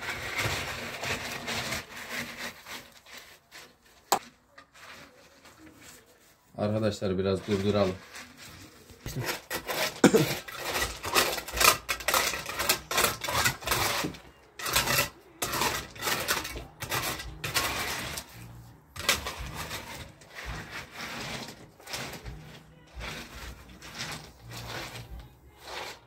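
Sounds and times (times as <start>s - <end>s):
hard objects clattering and scraping: 0.0s - 26.0s.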